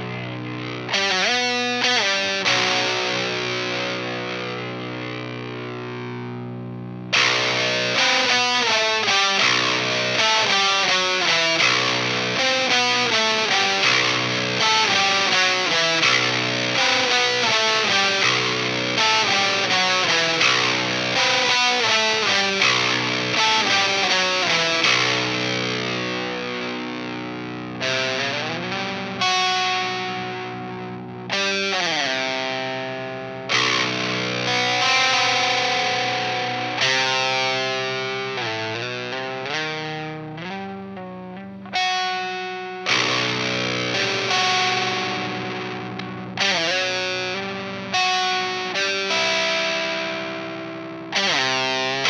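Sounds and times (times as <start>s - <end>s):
guitar slide down in pitch: 0.0s - 6.4s, 7.1s - 52.0s
electric guitar chords ringing: 0.0s - 52.0s.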